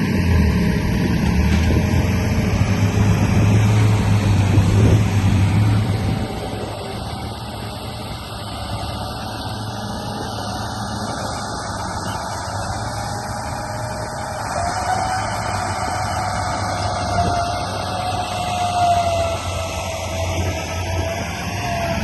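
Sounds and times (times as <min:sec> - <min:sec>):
remote-control bulldozer hum: 0:00.0 - 0:22.0.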